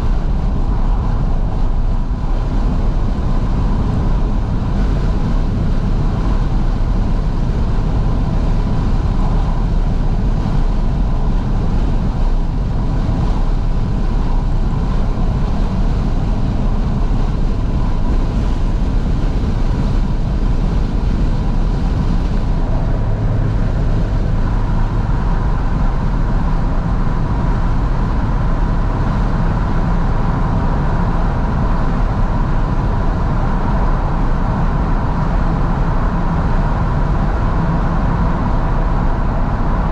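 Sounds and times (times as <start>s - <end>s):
car engine and road noise: 0.0s - 39.9s
wind rushing through windows: 0.0s - 39.9s.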